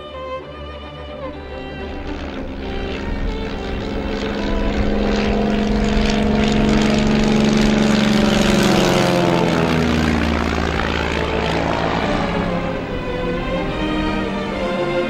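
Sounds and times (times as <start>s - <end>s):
propeller aircraft flying low past: 0.0s - 15.0s.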